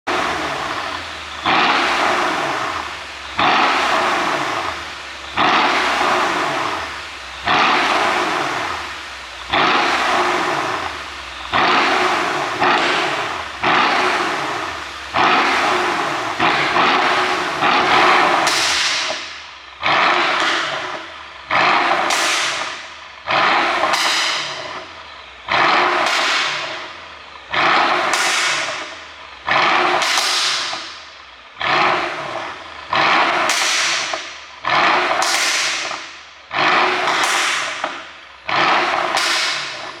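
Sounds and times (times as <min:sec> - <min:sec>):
car engine revving: 0:00.0 - 0:40.0
exhaust crackling and popping: 0:00.0 - 0:40.0.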